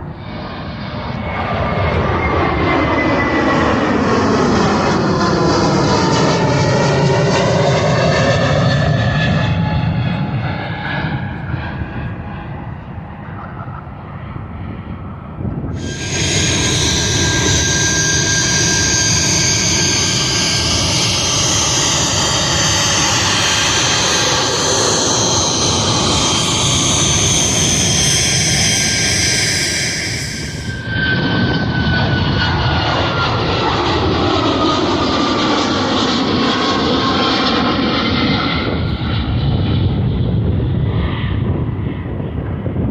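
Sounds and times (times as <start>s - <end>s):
jet engines roaring with whine: 0.0s - 42.9s.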